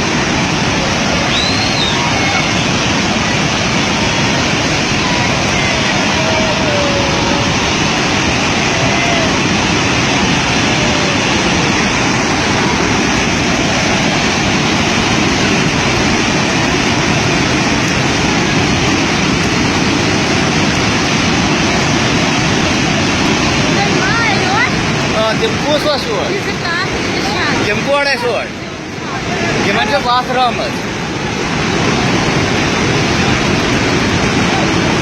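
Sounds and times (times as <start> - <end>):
river rushing: 0.0 - 35.0.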